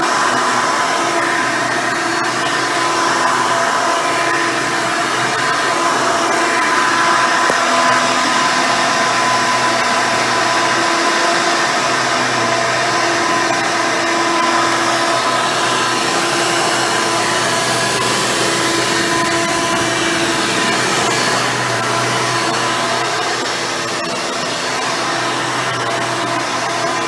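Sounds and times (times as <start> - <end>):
vacuum cleaner motor whine: 0.0 - 27.0.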